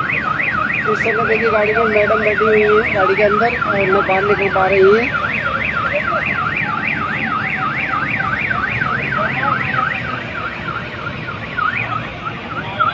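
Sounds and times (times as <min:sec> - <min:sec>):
electronic alarm siren warbling: 0:00.0 - 0:12.9
low rumble of traffic: 0:00.0 - 0:12.9.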